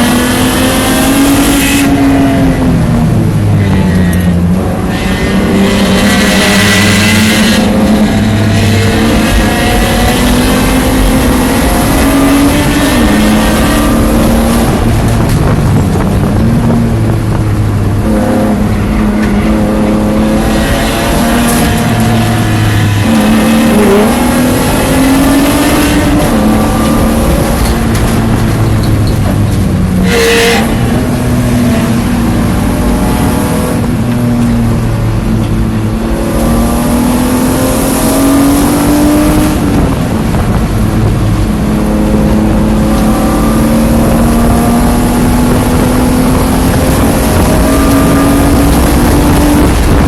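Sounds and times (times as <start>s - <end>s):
race car engine revving through gears: 0.0s - 50.0s.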